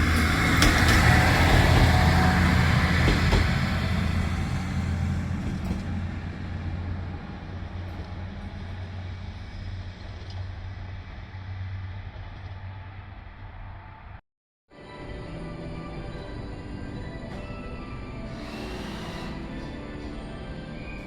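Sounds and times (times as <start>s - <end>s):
rail clicks: 0.0s - 13.2s, 16.0s - 21.0s
train rumbling: 0.0s - 14.2s, 14.8s - 21.0s.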